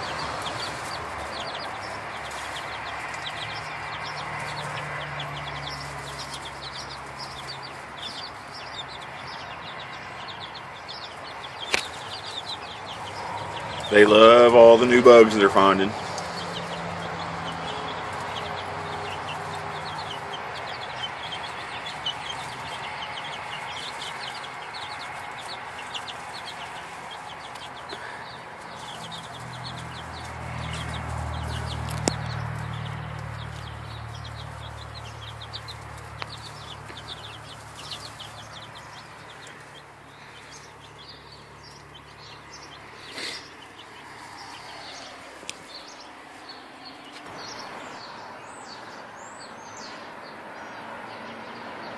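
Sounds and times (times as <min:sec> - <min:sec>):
chicks foraging in straw: 0:00.0 - 0:51.9
chicks peeping: 0:00.0 - 0:51.9.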